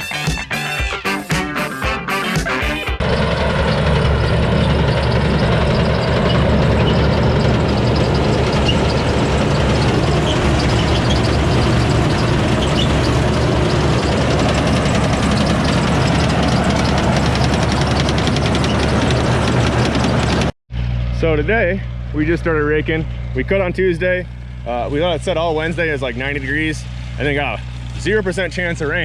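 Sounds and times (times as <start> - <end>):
tractor engine running under load: 3.0 - 29.0.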